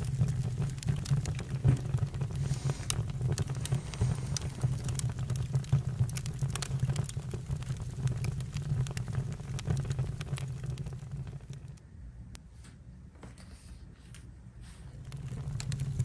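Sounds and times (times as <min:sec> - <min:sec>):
campfire crackling: 0:00.0 - 0:11.8, 0:14.8 - 0:16.0.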